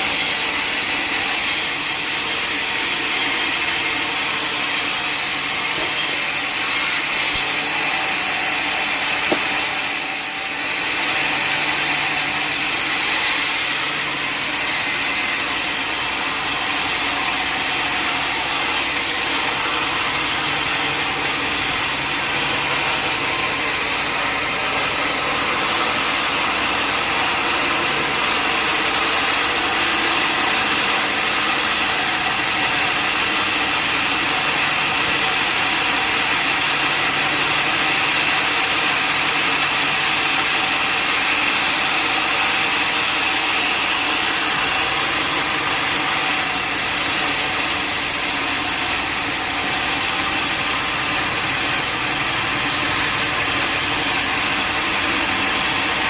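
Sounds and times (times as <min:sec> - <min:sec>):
saw blade cutting log: 0:00.0 - 0:56.0.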